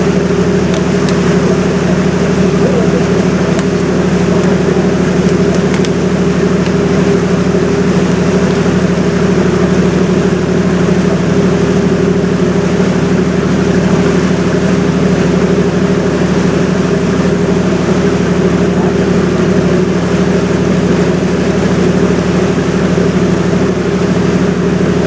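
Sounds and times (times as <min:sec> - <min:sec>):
ship engine humming: 0:00.0 - 0:25.0.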